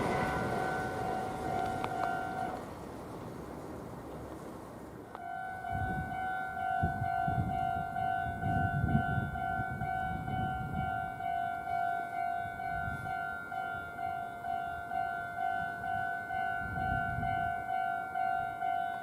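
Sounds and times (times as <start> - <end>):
level crossing warning bell: 0.0 - 2.6, 5.1 - 19.0.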